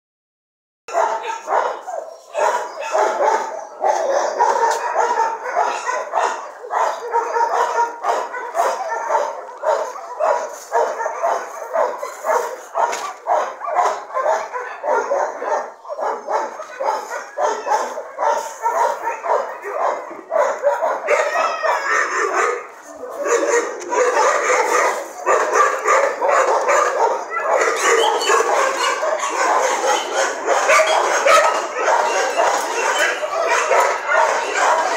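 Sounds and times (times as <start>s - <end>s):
many dogs barking: 0.9s - 34.9s.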